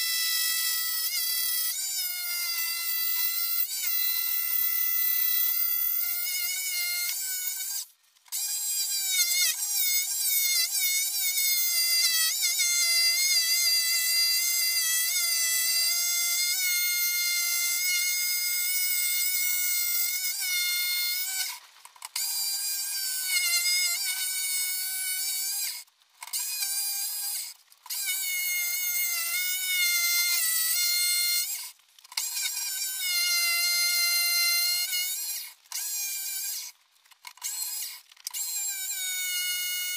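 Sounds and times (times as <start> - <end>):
jigsaw cutting wood: 0.0 - 39.9.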